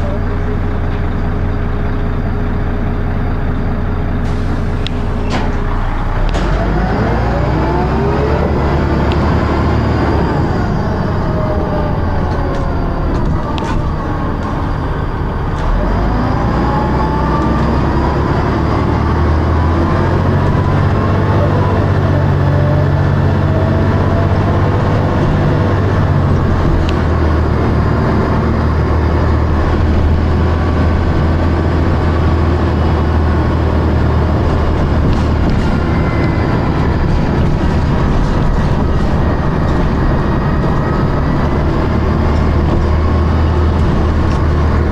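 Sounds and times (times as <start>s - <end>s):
bus diesel engine: 0.0s - 44.9s
gearbox whining: 1.4s - 44.9s.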